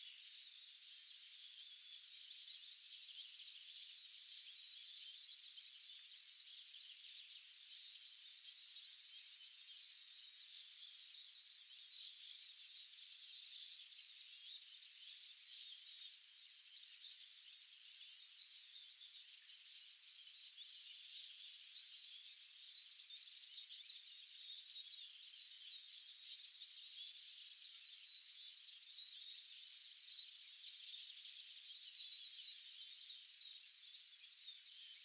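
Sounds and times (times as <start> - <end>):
songbirds twittering: 0.0 - 35.0.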